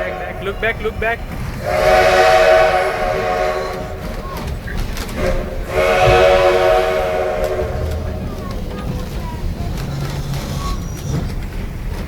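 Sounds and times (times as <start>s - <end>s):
steam locomotive whistle: 0.0s - 9.9s
train rumbling: 0.0s - 12.0s.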